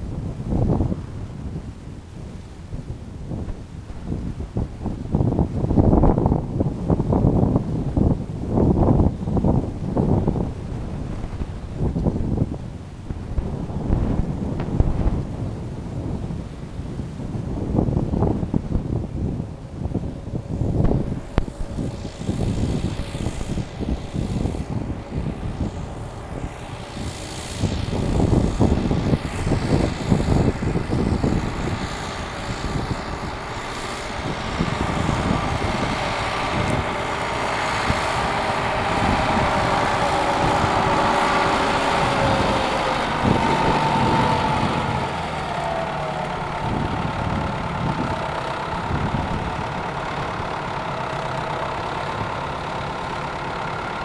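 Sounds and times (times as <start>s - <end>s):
tractor engine running: 0.0s - 54.0s
wind gusting on microphone: 0.0s - 54.0s.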